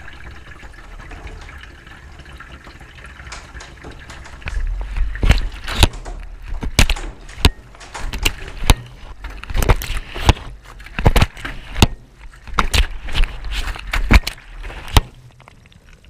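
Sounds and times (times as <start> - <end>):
washing machine drum rumbling: 0.0 - 13.2.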